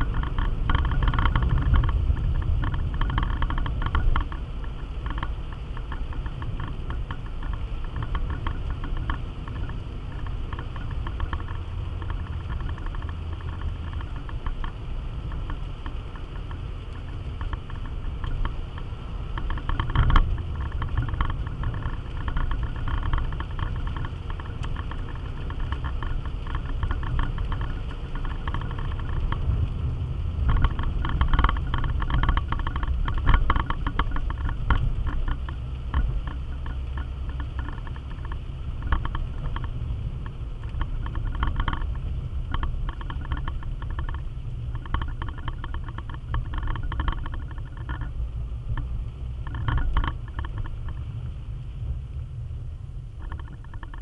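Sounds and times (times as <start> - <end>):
car engine and tyres rumbling: 0.0 - 54.0
crackling and rattling: 0.0 - 54.0.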